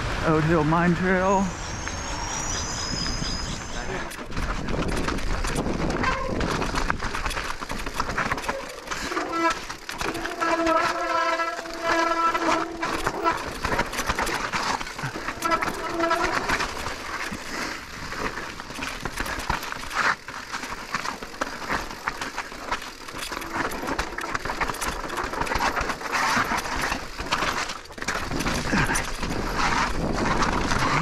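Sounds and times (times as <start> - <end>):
bike rattling: 0.2 - 31.0
tyres crunching on rocks: 3.3 - 31.0.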